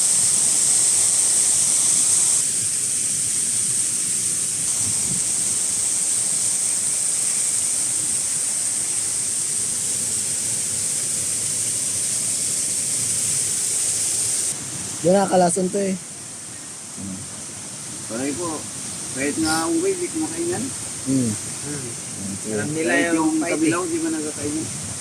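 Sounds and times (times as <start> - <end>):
waterfall roaring: 2.4 - 25.0.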